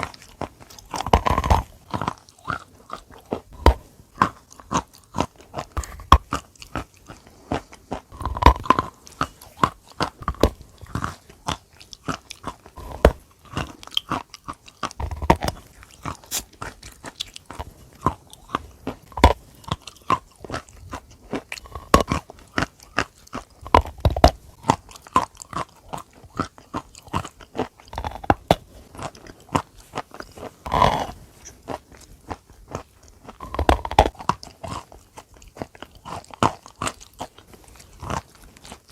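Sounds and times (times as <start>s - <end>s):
person chewing chalk crunches: 0.0s - 38.9s.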